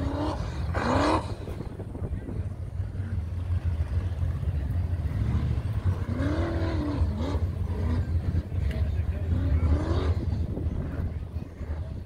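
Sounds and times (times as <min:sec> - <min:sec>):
buggy engine rumbling and revving: 0:00.0 - 0:12.0.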